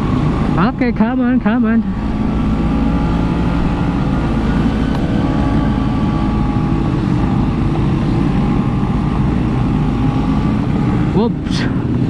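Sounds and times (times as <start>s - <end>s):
road and wind rumble: 0.0s - 12.0s.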